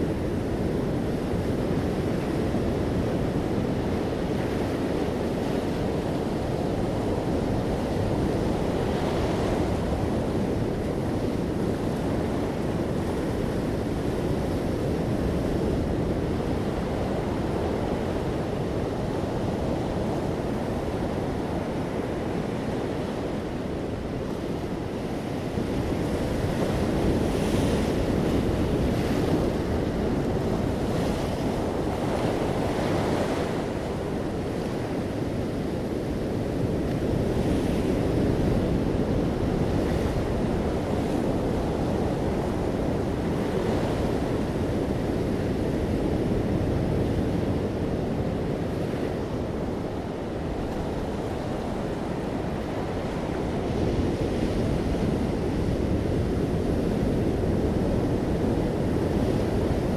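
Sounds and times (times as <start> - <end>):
low rumble of waves: 0.0 - 59.9.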